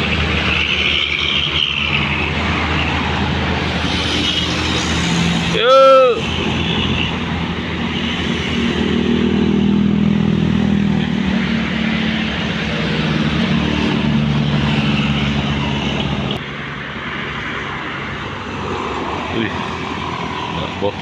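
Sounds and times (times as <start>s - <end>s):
tyre and road noise: 0.0s - 21.0s
vehicle engine passing: 0.0s - 21.0s.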